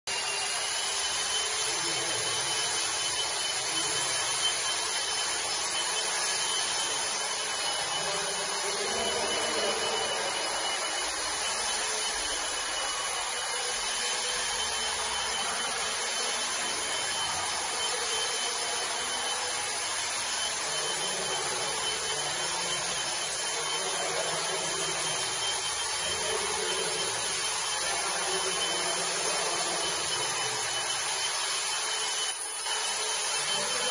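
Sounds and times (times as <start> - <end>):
steady mechanical noise: 0.1 - 33.9
thin high-pitched whine: 0.1 - 33.9.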